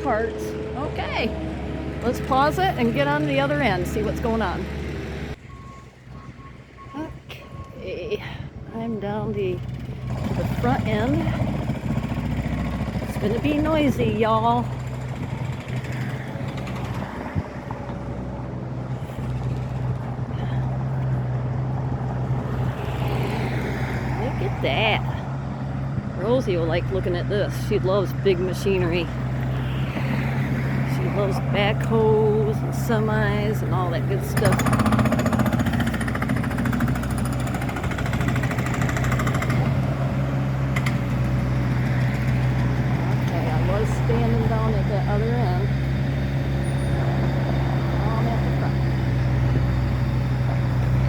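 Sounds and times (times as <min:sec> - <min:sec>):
jackhammer pounding: 0:00.0 - 0:05.4, 0:09.1 - 0:29.5, 0:30.8 - 0:51.0
heavy diesel engine droning: 0:00.0 - 0:51.0.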